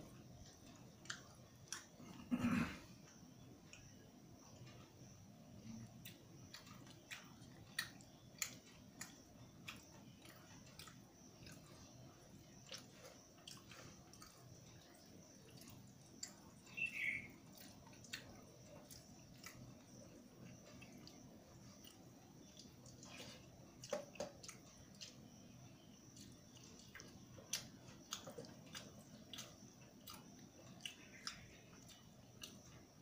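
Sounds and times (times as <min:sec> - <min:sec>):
chewing and mouth sounds: 0:00.4 - 0:02.2, 0:04.6 - 0:33.0.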